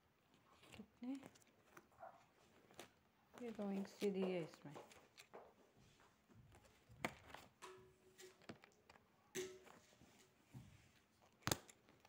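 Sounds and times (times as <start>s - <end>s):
workbook pages handled: 0.1s - 12.0s.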